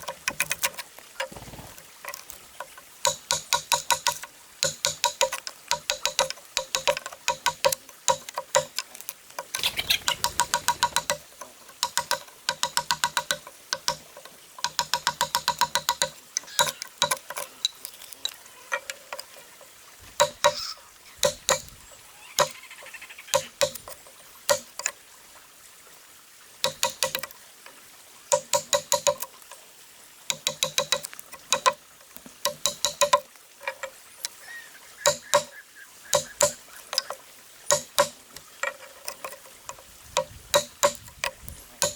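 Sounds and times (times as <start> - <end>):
hand tools tapping wood: 0.0 - 1.4, 2.0 - 19.4, 20.0 - 20.6, 21.2 - 21.8, 23.3 - 25.0, 26.6 - 27.3, 28.3 - 29.6, 30.3 - 34.4, 35.0 - 41.9.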